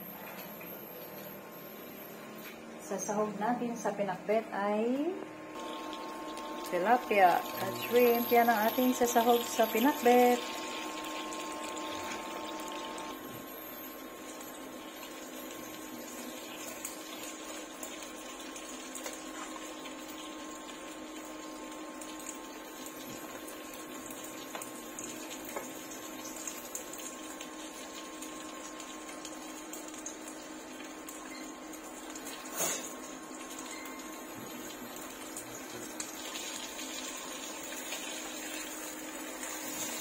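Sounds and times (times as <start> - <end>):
water running from tap: 5.6 - 13.2, 14.2 - 40.0.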